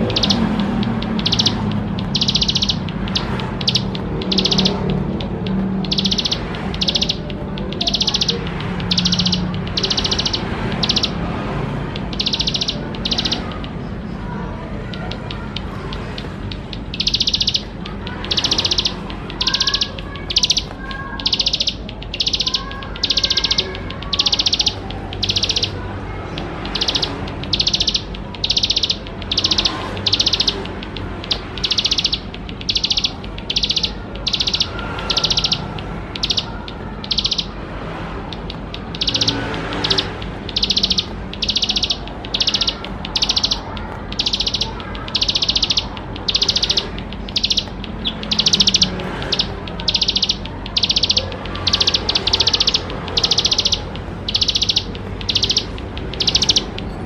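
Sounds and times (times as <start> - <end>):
bird singing buzzy notes: 0.0 - 57.0.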